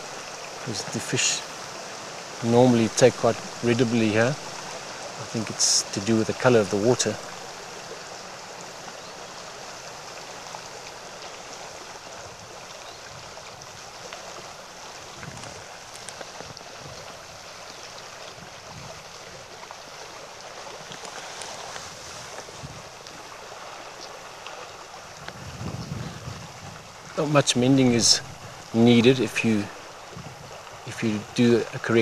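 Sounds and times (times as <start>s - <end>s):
stream running over rocks: 0.0s - 32.0s.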